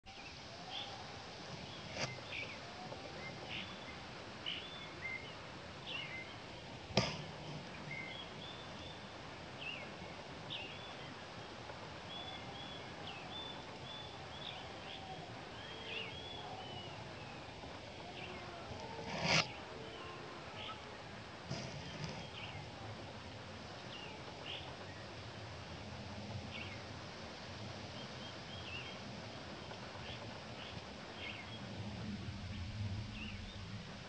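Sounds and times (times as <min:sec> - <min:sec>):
birds chirping: 0:00.1 - 0:33.8.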